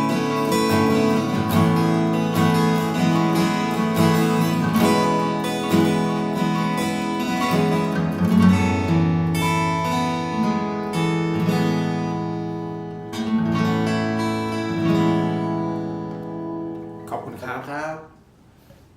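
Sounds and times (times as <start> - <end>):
acoustic guitar chords: 0.0 - 18.3.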